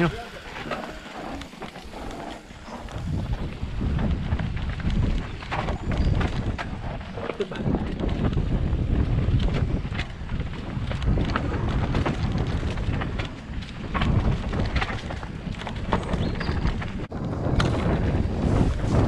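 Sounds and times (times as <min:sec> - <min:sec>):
low tyre rumble: 0:00.0 - 0:19.0
wind buffeting microphone: 0:00.0 - 0:19.0
bike clicks and rattles: 0:00.3 - 0:19.0.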